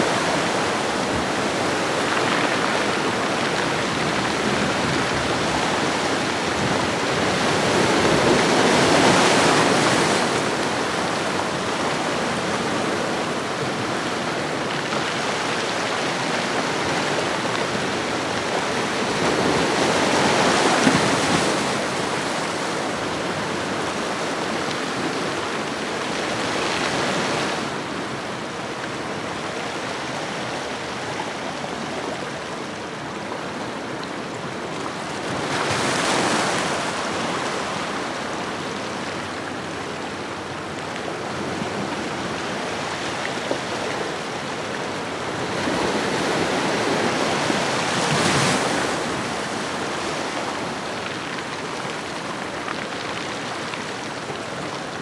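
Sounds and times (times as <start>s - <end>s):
ocean waves on shore: 0.0s - 55.0s.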